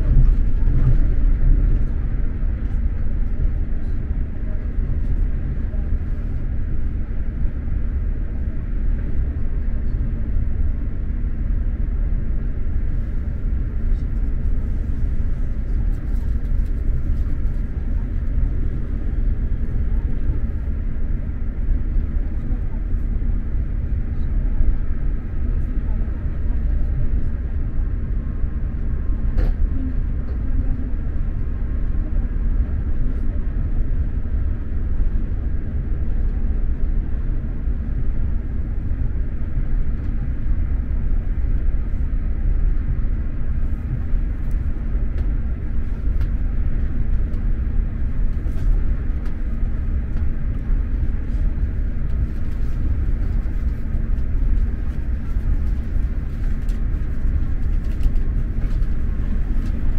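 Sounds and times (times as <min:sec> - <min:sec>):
faint steady hum: 0:00.0 - 0:59.9
train rumble inside carriage: 0:00.0 - 0:59.9.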